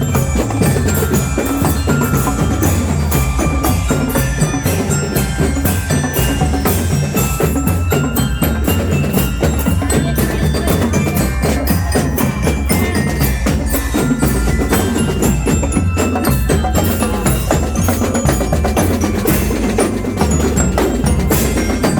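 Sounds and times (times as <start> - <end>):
bell-like struck tones: 0.0 - 21.9
dense drumming with bass: 0.0 - 21.9.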